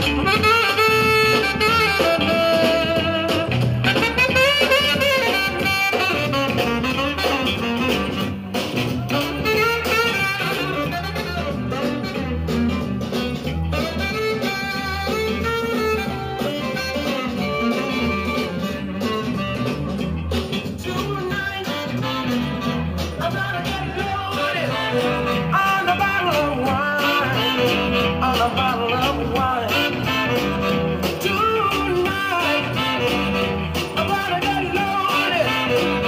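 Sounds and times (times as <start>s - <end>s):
recorded music over sound system: 0.0s - 36.0s.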